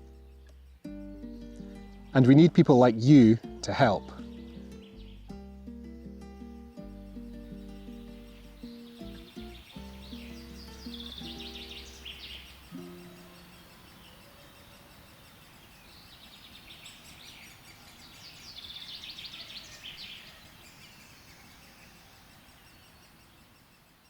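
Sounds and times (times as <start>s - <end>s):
faint steady hiss: 0.0s - 24.0s
songbird trilling: 1.4s - 5.4s, 7.2s - 24.0s.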